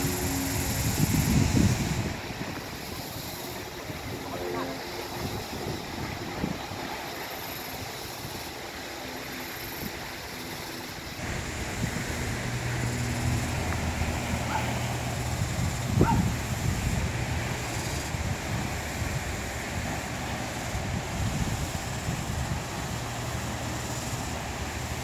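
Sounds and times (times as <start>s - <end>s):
wind buffeting microphone: 0.0s - 8.7s, 11.2s - 25.0s.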